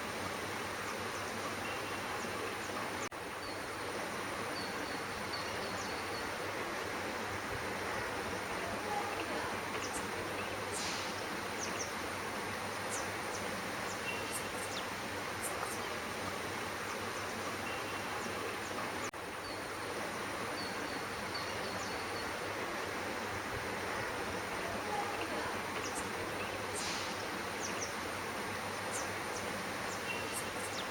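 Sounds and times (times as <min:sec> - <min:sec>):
outdoor background hiss: 0:00.0 - 0:30.9.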